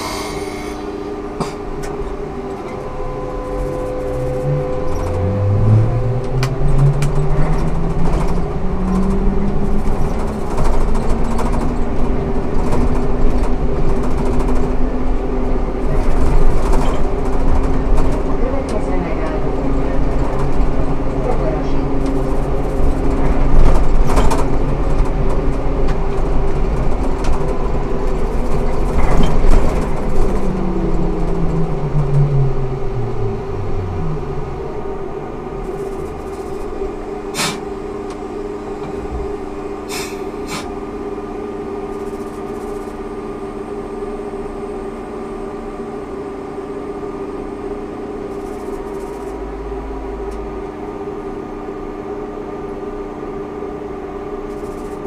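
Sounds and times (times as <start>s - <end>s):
trolleybus traction whine: 0.0s - 55.0s.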